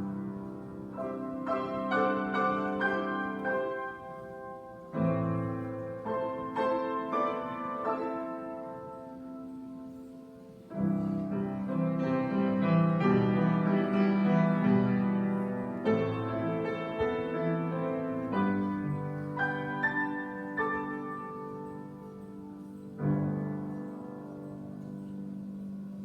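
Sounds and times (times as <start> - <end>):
piano playing slow chords: 0.0 - 26.0.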